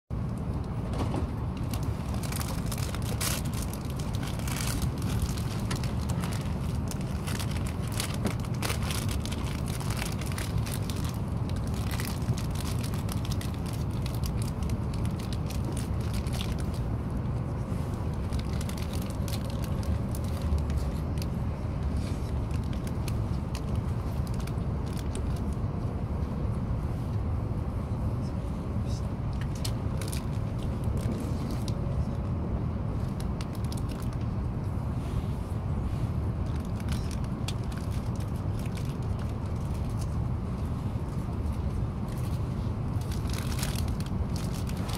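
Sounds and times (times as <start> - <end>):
train cabin low rumble: 0.1 - 44.9.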